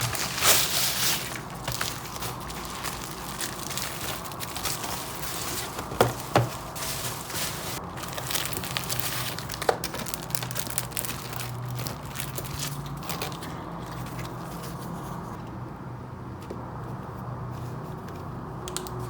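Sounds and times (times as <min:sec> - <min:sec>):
crinkling handling noise: 0:00.0 - 0:15.4.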